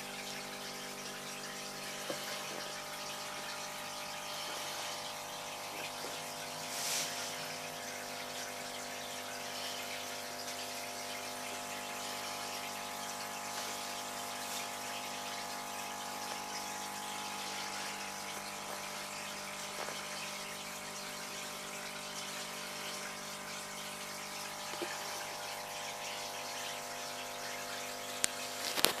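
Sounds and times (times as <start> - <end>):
aquarium pump humming: 0.0 - 29.0.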